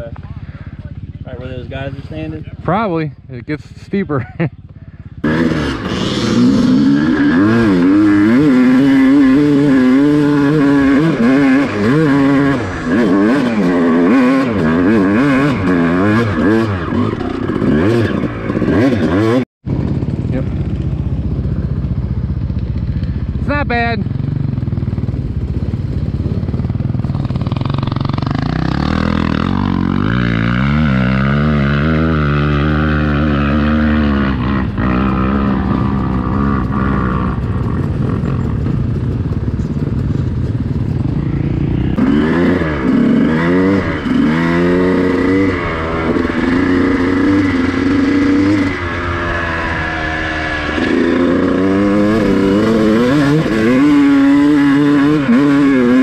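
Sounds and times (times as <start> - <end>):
dirt bike engines revving: 0.0 - 56.0
close two-stroke engine revving: 5.1 - 20.8, 26.7 - 56.0.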